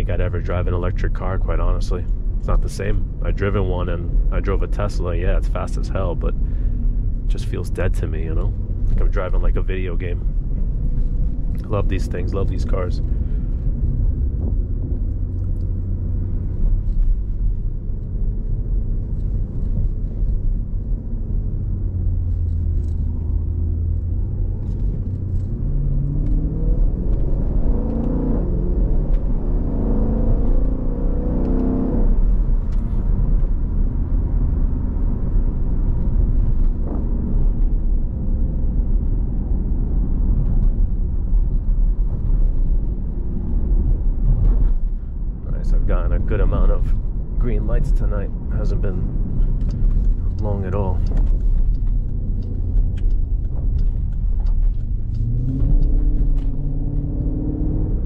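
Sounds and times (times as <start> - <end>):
car engine rumble from cabin: 0.0 - 58.0.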